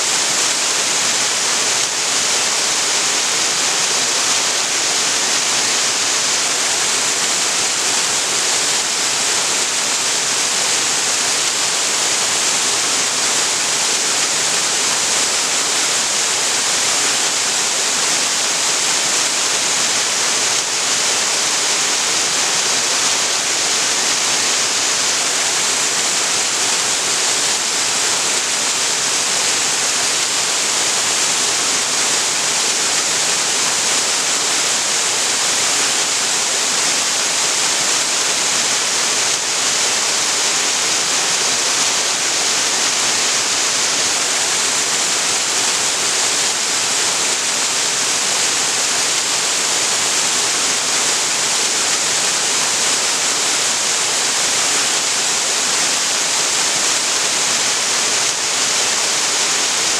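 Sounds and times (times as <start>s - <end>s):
waterfall pouring: 0.1s - 59.9s.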